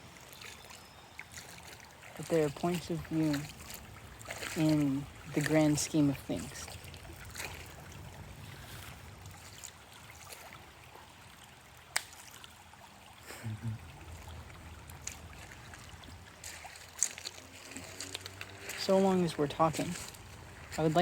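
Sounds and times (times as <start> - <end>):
faint trickling stream: 0.0 - 21.0.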